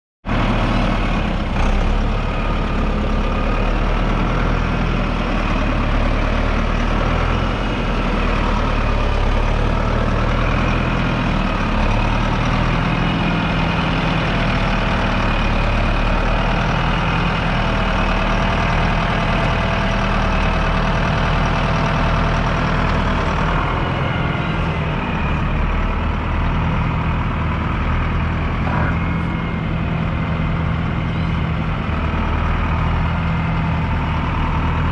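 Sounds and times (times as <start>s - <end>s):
tractor diesel engine idling: 0.2s - 34.9s.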